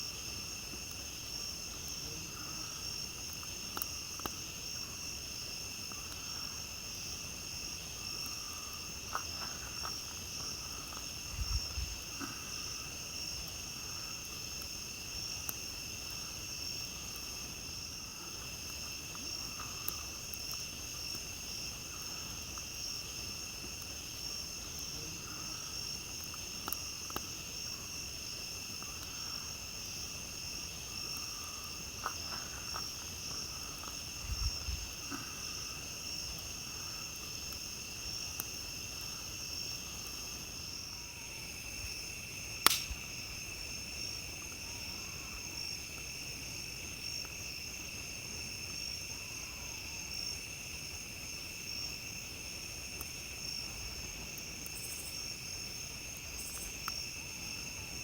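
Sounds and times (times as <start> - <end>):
campfire crackles and pops: 0.0 - 58.0
night insects chirring: 0.0 - 58.0.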